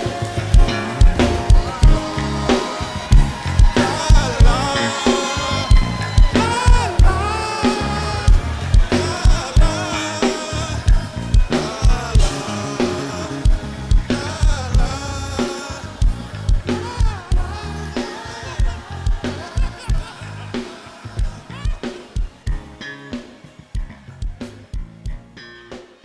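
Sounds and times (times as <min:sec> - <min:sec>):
person singing: 0:00.0 - 0:22.4
live gospel band: 0:00.0 - 0:25.6.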